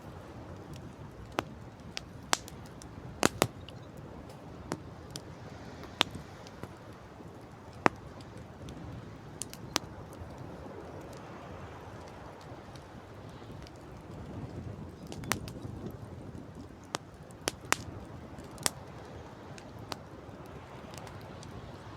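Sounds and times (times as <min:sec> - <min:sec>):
campfire crackling and popping: 0:00.0 - 0:21.9.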